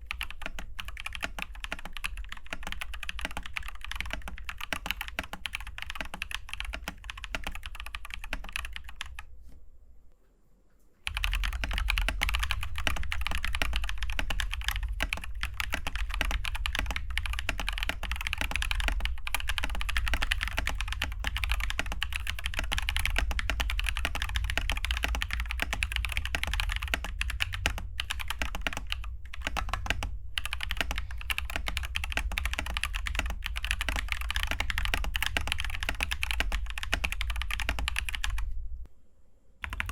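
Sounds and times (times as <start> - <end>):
fast mechanical keyboard typing: 0.0 - 9.3, 11.0 - 38.5, 39.6 - 39.9.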